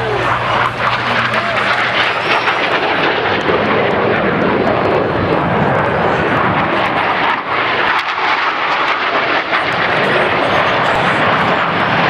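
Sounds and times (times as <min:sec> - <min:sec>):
aircraft engines roaring: 0:00.0 - 0:12.0.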